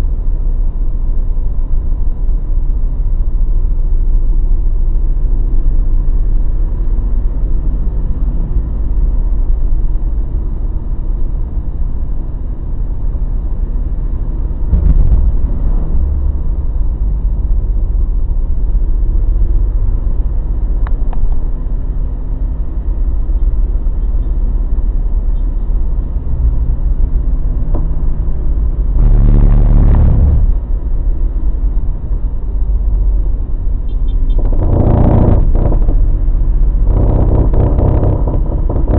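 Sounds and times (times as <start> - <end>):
pickup truck engine and road rumble: 0.0 - 38.9.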